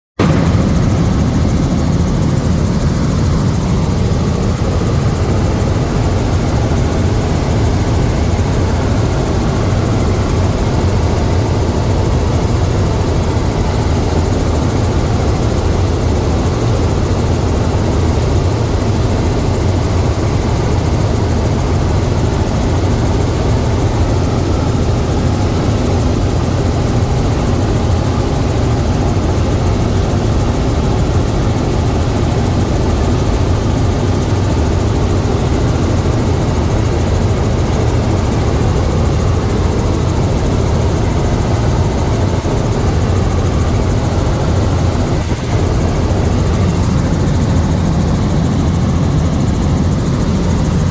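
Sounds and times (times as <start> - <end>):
helicopter droning: 0.2 - 50.9.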